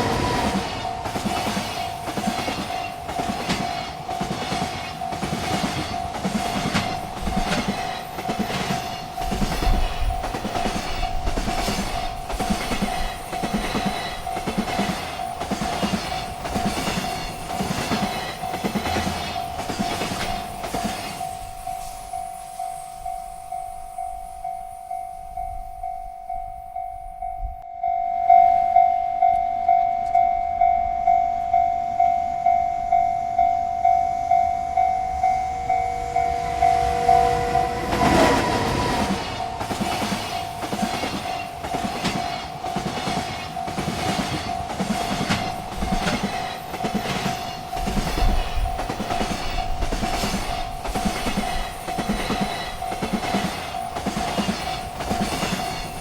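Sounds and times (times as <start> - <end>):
train wheels clattering on rails: 0.0 - 26.0, 34.7 - 56.0
freight train passing: 0.0 - 56.0
railroad crossing bell ringing: 0.0 - 56.0.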